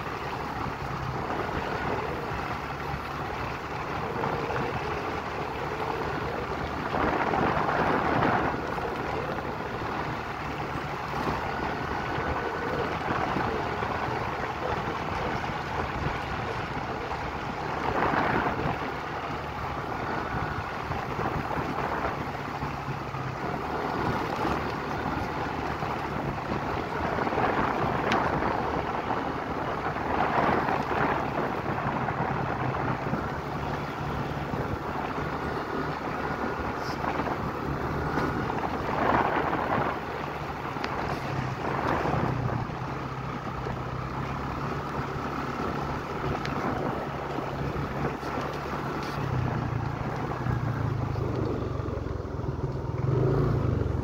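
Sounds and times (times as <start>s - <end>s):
vehicle engine and road noise: 0.0s - 54.0s
wind on microphone: 0.0s - 54.0s.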